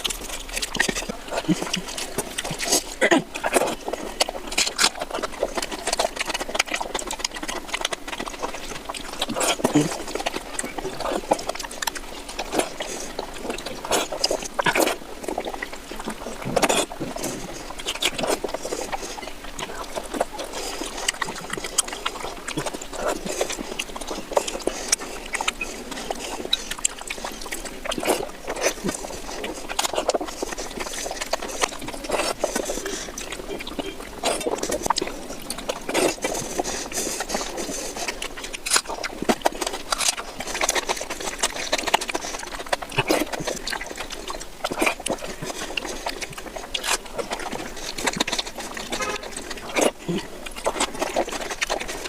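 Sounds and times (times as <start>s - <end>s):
wet chewing and lip smacking: 0.0s - 52.0s.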